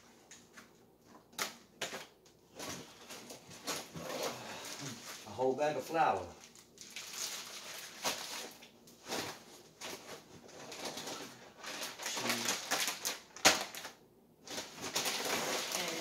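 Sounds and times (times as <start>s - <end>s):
plastic packaging crinkling: 1.4s - 16.0s.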